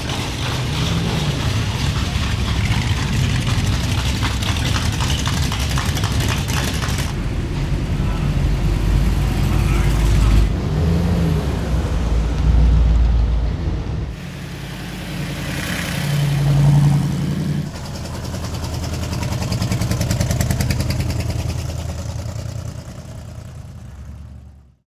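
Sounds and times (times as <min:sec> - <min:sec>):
hot rod engines driving past: 0:00.0 - 0:24.8.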